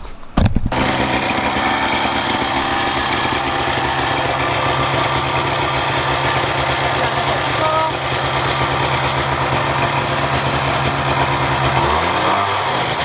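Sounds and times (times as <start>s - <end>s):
go-kart engine idling: 0.7s - 13.0s.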